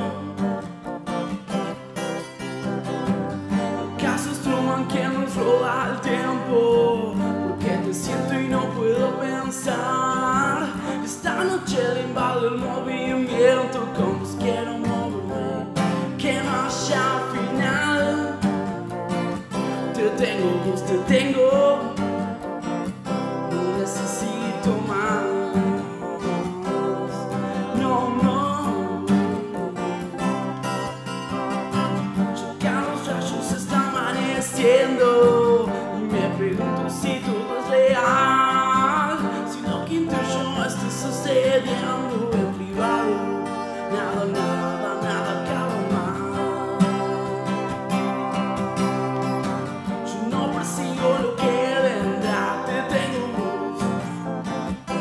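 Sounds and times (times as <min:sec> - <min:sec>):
acoustic guitar strumming: 0:00.0 - 0:55.0
electric keyboard chords: 0:00.0 - 0:55.0.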